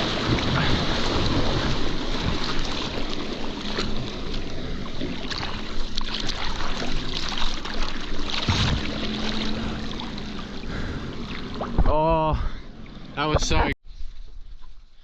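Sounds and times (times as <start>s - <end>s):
water rushing and splashing: 0.0s - 13.7s
faint engine drone: 0.0s - 13.8s.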